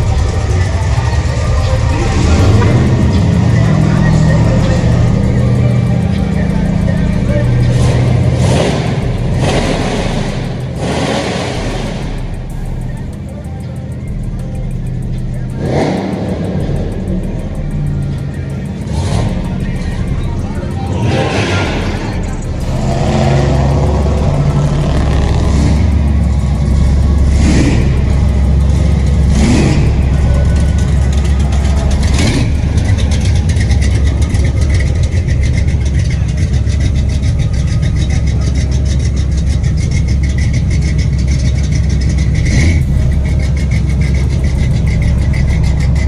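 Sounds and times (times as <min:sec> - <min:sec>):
car engine rumbling: 0:00.0 - 0:46.0.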